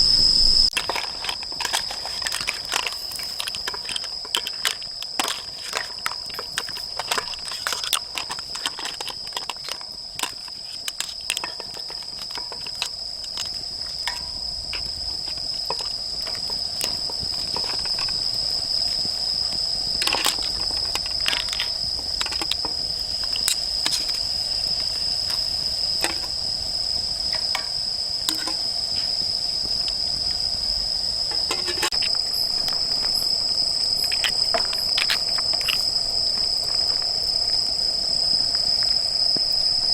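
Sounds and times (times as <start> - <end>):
insects chirring: 0.0 - 39.9
firewood crackling and popping: 0.7 - 37.6.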